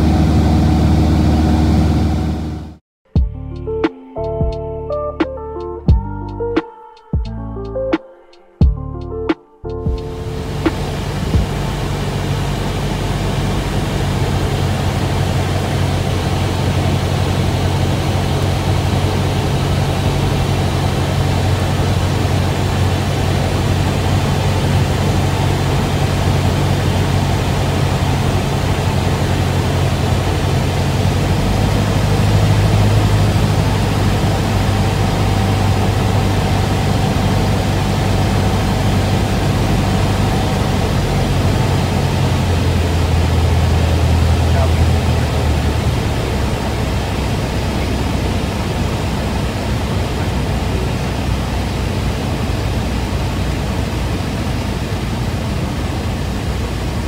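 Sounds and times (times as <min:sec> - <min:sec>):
airflow noise over cabin: 0:00.0 - 0:02.8, 0:09.8 - 0:57.0
propeller plane engine droning: 0:00.0 - 0:02.8, 0:09.8 - 0:57.0.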